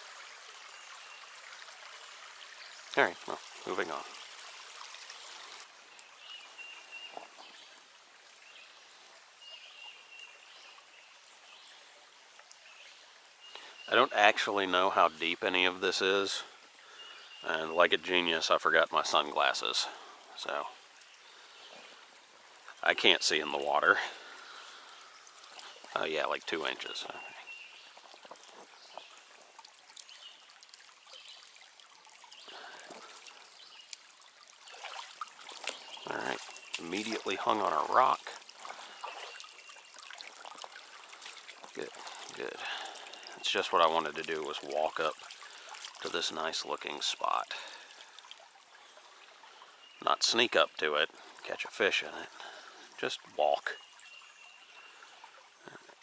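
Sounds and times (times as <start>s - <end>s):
creek flowing: 0.0s - 56.0s.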